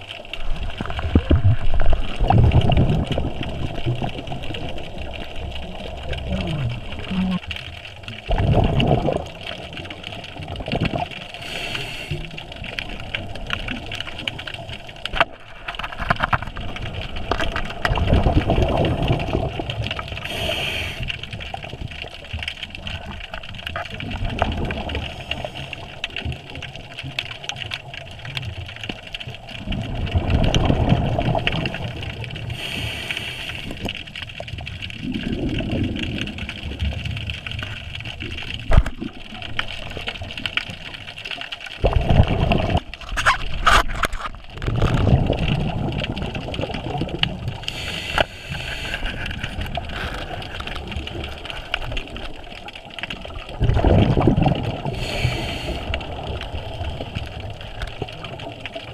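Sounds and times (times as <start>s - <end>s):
underwater regulator bubbles: 0.0s - 58.9s.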